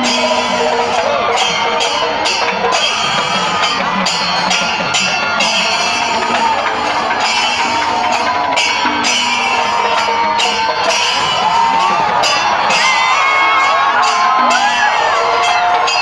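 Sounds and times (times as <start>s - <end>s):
crowd noise: 0.0s - 16.0s
drums: 0.0s - 16.0s.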